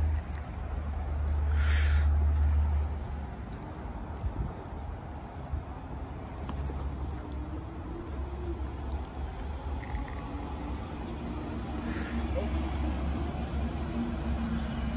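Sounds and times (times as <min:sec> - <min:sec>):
crickets singing: 0:00.0 - 0:14.9.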